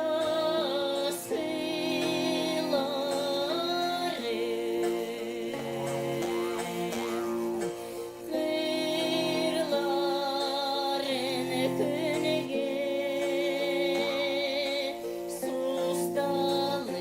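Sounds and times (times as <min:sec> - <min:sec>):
instrumental accompaniment: 0:00.0 - 0:17.0
person singing folk song: 0:00.0 - 0:17.0.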